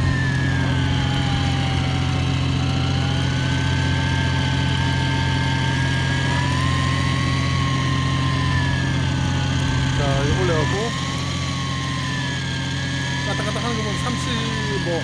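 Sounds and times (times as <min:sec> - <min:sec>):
boat engine hum: 0:00.0 - 0:15.0
electric fishing reel whine: 0:00.0 - 0:15.0.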